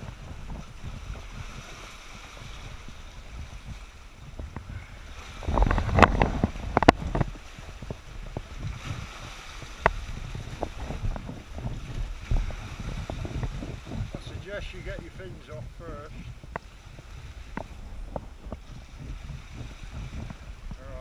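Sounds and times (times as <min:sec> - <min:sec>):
rushing water: 0:00.0 - 0:21.0
underwater sea surge rumble: 0:00.0 - 0:21.0.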